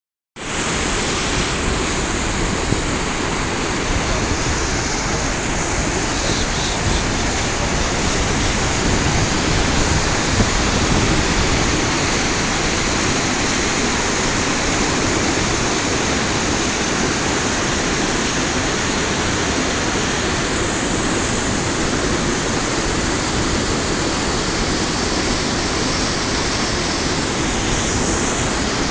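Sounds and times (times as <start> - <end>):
waterfall rushing: 0.4 - 28.9.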